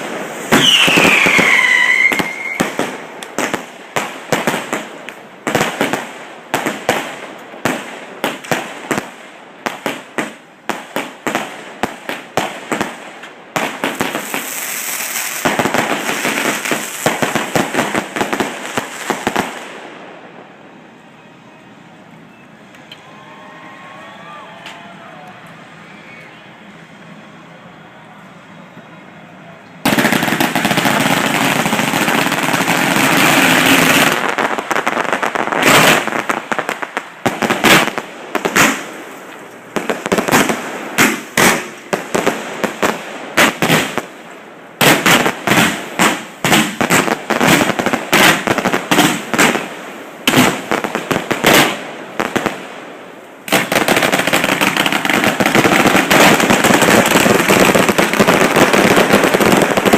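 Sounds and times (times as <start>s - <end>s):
fireworks bangs: 0.0s - 21.3s, 28.3s - 59.9s.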